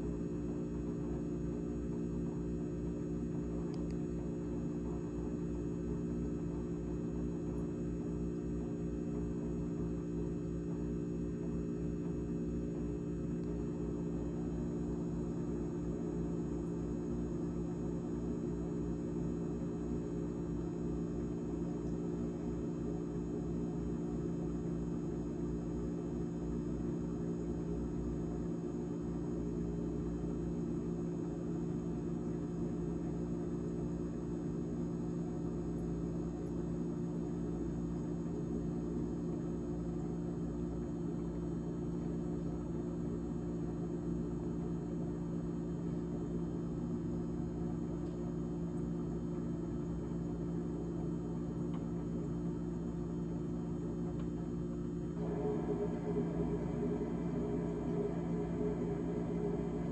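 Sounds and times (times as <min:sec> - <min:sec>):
refrigerator fan humming drone: 0:00.0 - 0:59.9.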